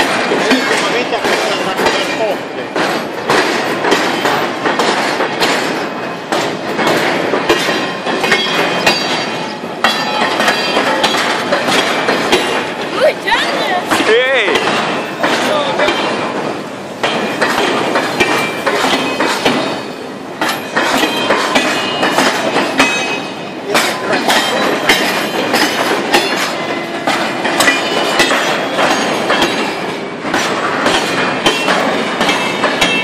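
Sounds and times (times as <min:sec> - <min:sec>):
metallic clanks: 0:00.0 - 0:12.9, 0:13.9 - 0:33.0
wheels clacking over rail joints: 0:00.0 - 0:33.0.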